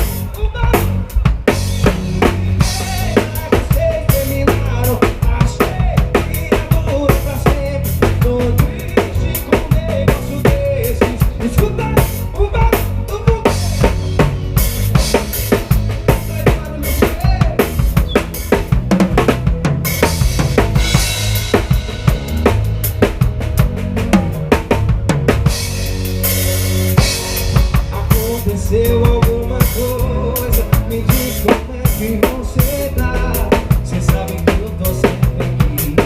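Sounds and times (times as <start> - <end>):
drum kit beat: 0.0 - 36.0.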